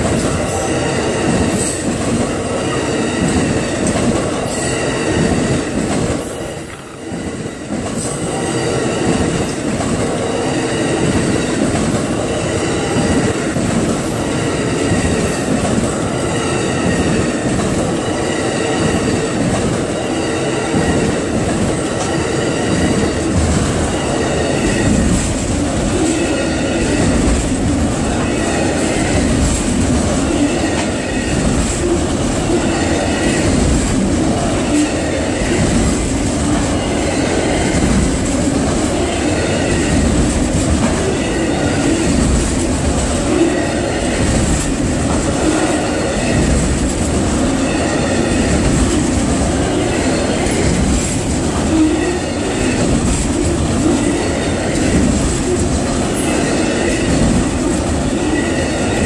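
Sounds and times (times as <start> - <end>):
train wheels clicking over rail joints: 0.0 - 59.0.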